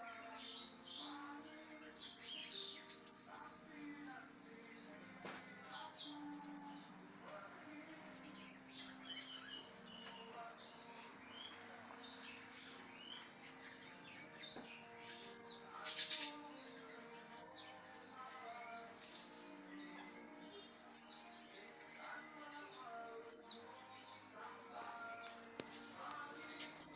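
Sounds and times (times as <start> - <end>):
lovebird chirping: 0.0 - 26.9.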